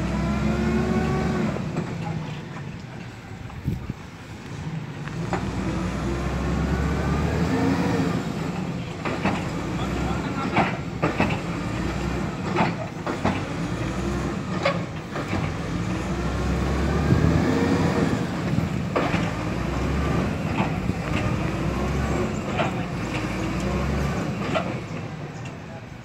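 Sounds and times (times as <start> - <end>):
diesel truck engines revving: 0.0 - 26.0.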